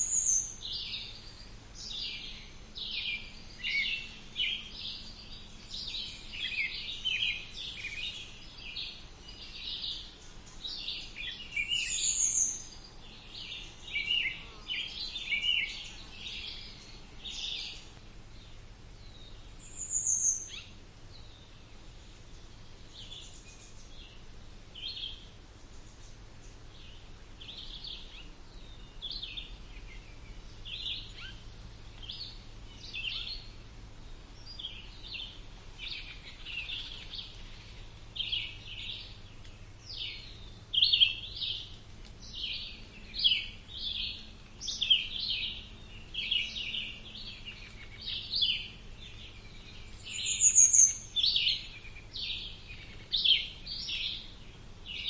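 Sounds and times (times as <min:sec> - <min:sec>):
birds chirping and singing: 0:00.0 - 0:24.2, 0:24.8 - 0:55.0.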